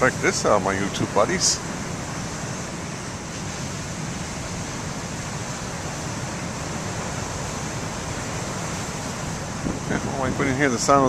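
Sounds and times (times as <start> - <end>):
heavy surf: 0.0 - 11.0
strong wind: 0.0 - 11.0.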